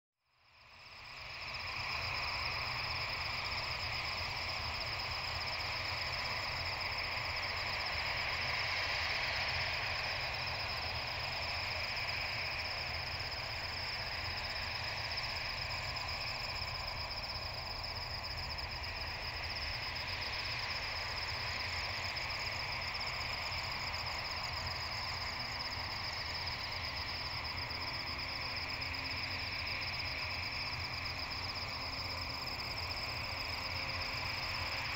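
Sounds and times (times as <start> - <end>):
crickets trilling: 0.5 - 34.9.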